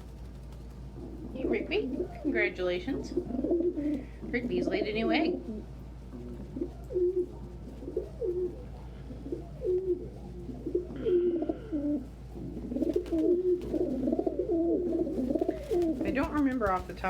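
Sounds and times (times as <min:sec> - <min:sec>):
pigeons cooing: 0:00.8 - 0:17.0.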